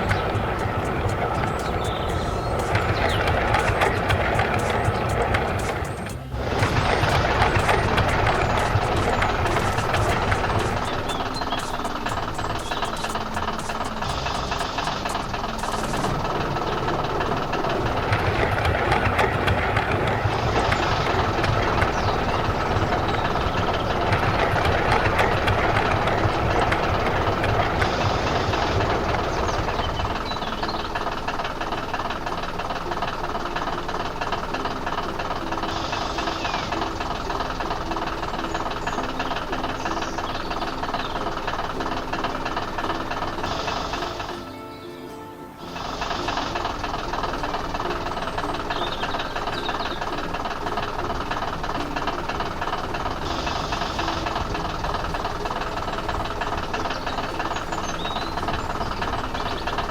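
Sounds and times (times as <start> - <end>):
tractor engine chugging: 0.0 - 44.6, 45.6 - 59.9.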